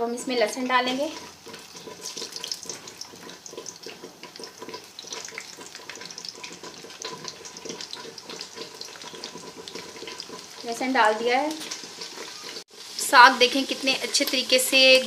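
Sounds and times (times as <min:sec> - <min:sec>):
garlic sizzling in hot fat: 0:00.0 - 0:15.0.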